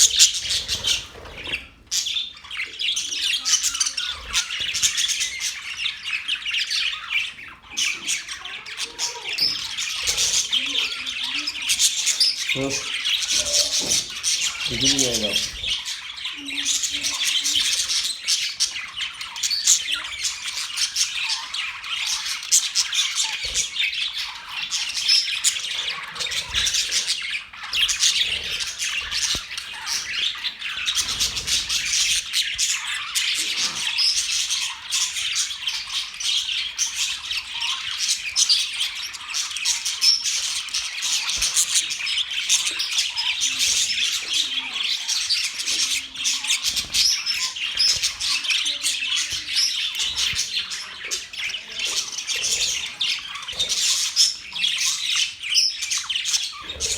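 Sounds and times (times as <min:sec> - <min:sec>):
budgerigars chirping and squawking: 0:00.0 - 0:56.9.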